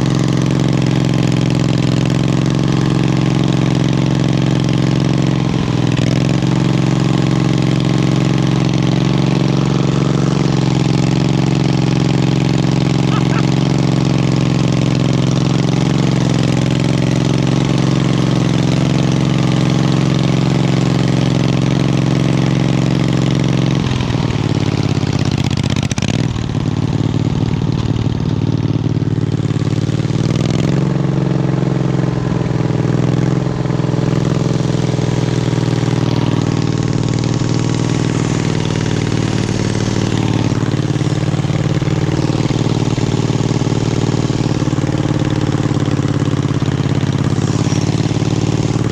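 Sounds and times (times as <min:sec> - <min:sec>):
lawn tractor engine running: 0:00.0 - 0:48.9.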